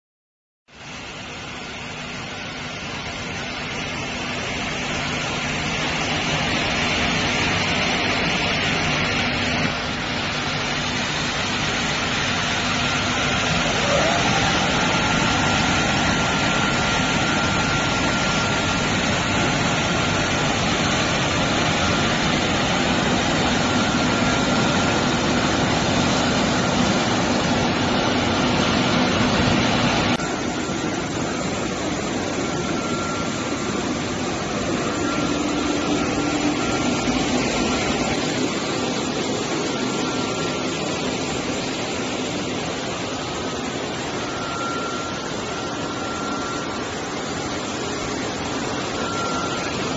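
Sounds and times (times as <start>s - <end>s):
machinery hum: 0.7s - 49.9s
washing machine water rushing: 0.7s - 49.9s.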